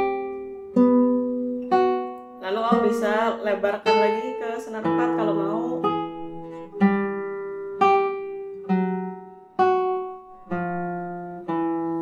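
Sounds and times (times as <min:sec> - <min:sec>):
classical guitar single notes: 0:00.0 - 0:12.0.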